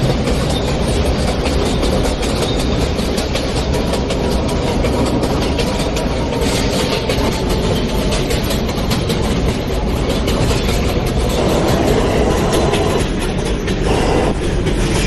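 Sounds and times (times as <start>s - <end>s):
subway car rumble and rattle: 0.0s - 15.0s
wheels clicking over rails: 0.0s - 15.0s.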